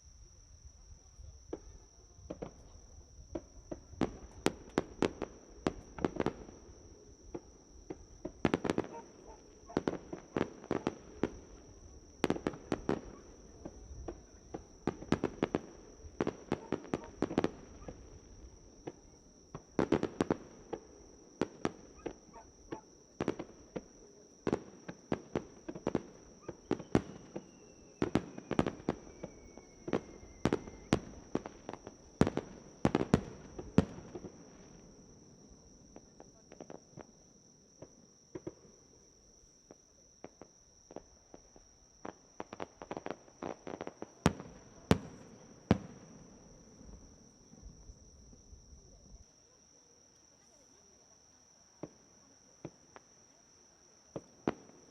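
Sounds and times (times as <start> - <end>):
insects chirring: 0.0 - 54.9
fireworks bangs and crackles: 1.2 - 38.8, 39.6 - 49.2, 51.8 - 53.2, 54.1 - 54.9.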